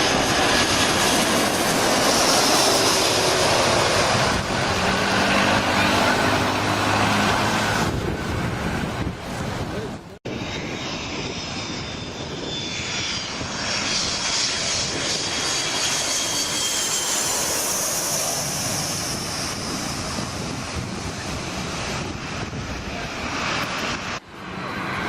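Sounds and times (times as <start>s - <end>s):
airliner passing overhead: 0.0s - 25.0s.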